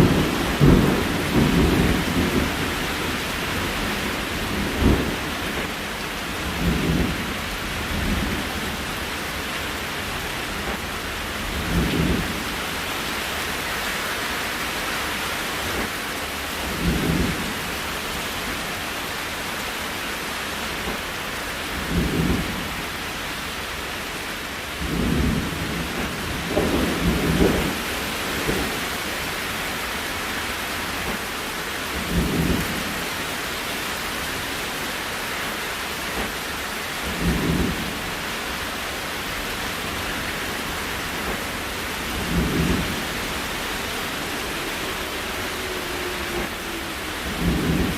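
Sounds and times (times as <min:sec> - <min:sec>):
rain hiss: 0:00.0 - 0:47.9.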